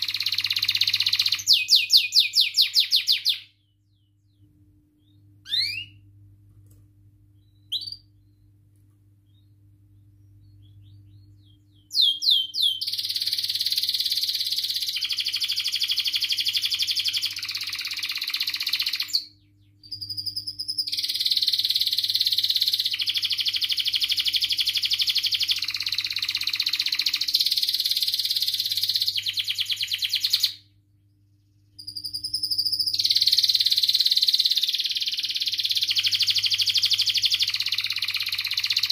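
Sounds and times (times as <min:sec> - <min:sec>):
canary singing: 0:00.0 - 0:06.2, 0:07.3 - 0:30.7, 0:31.7 - 0:38.9.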